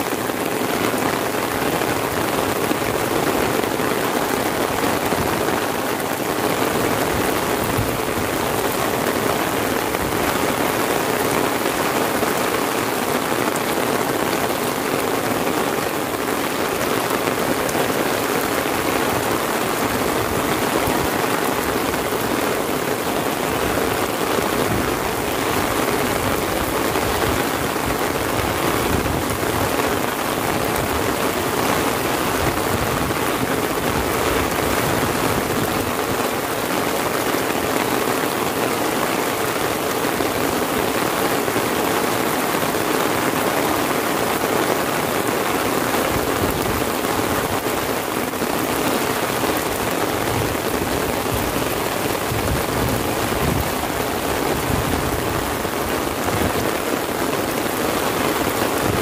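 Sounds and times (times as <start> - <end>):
heavy rain on an umbrella: 0.0 - 59.0.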